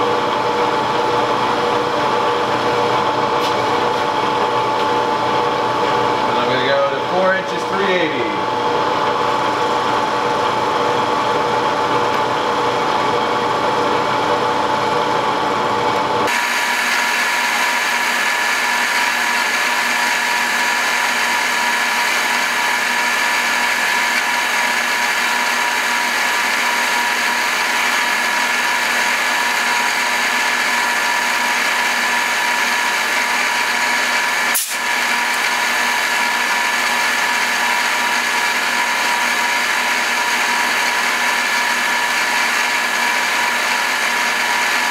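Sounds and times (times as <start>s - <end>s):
milling machine whining: 0.0s - 44.9s.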